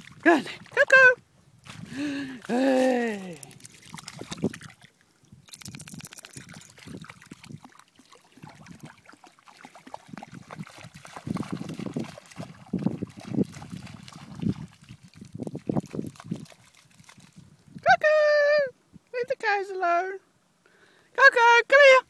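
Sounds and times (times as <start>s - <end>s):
splashing in shallow water: 0.0s - 17.8s.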